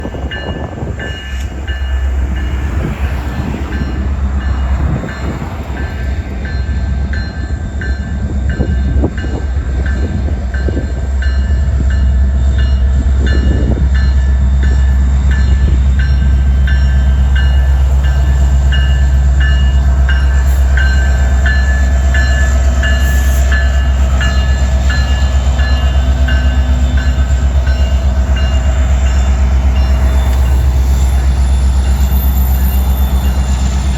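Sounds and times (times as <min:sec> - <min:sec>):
diesel locomotive drone: 0:00.0 - 0:33.9
train cars knocking and clattering: 0:00.0 - 0:33.9.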